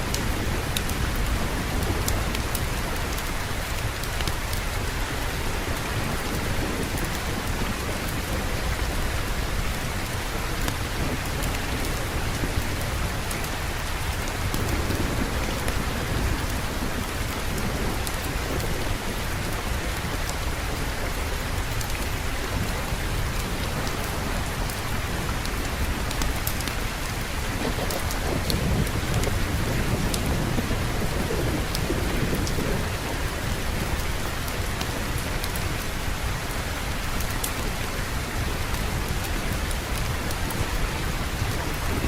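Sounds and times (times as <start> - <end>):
heavy rain: 0.0 - 42.0
low rolling thunder: 5.3 - 42.0.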